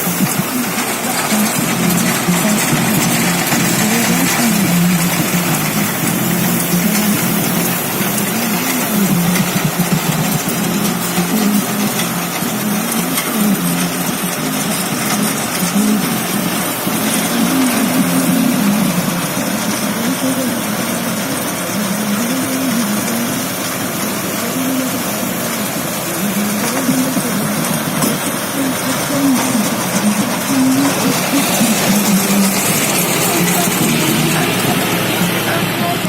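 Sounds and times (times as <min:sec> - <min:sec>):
baler engine running: 0:00.0 - 0:36.0.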